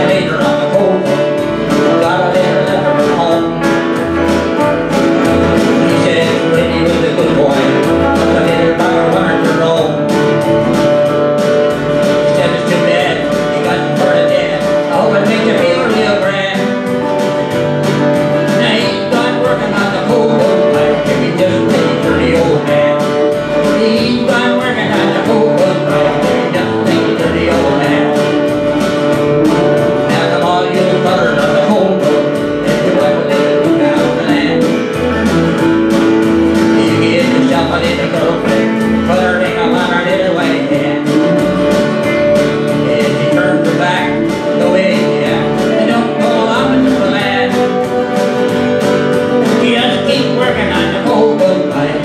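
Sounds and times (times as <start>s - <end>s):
acoustic guitar: 0.0s - 52.0s
man singing country song: 0.0s - 52.0s.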